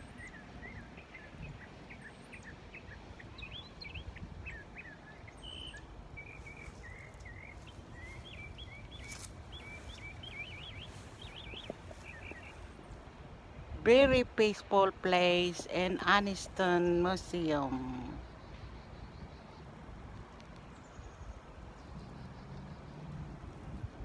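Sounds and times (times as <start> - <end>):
small birds chirping: 0.0 - 13.0, 16.8 - 24.0.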